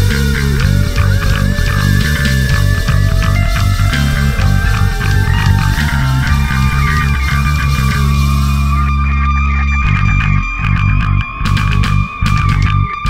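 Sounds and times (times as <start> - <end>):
held electric guitar note: 0.0 - 11.4
low bass note ringing: 0.0 - 13.0
rock band playing: 0.0 - 13.0.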